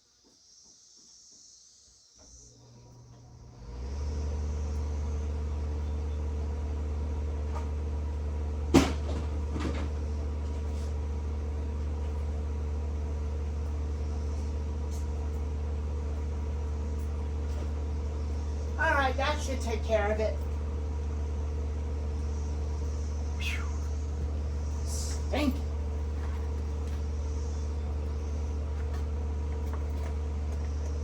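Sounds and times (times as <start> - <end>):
exhaust fan humming: 2.4 - 31.0.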